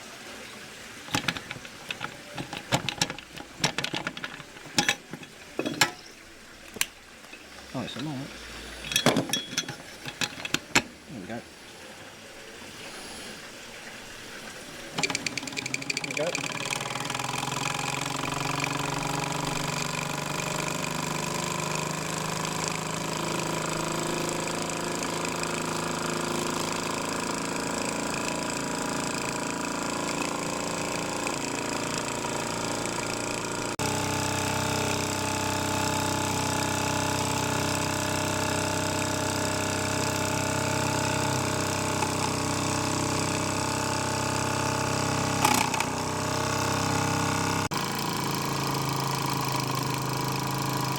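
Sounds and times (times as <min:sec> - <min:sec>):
model steam engine running: 0:01.1 - 0:06.0, 0:07.6 - 0:11.4, 0:15.0 - 0:50.9.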